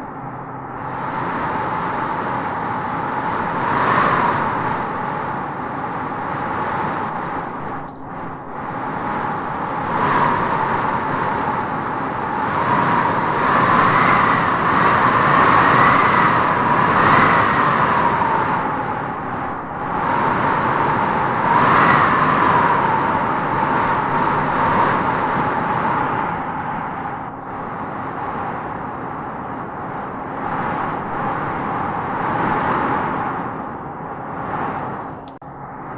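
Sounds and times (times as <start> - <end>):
wind howling in gusts: 0.0 - 35.9.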